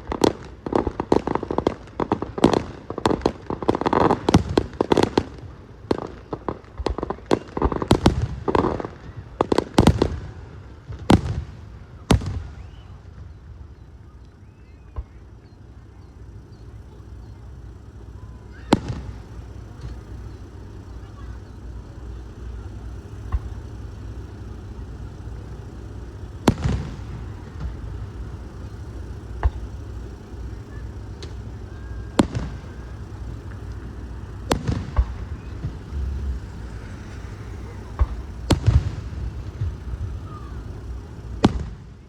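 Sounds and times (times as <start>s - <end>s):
firework bangs: 0.0s - 14.1s, 14.9s - 42.0s
firework crackle: 0.0s - 42.0s
low background rumble: 0.0s - 42.0s.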